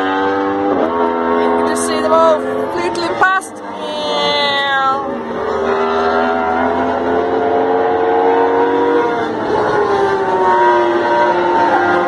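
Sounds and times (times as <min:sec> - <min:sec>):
racing motorcycles passing: 0:00.0 - 0:12.0.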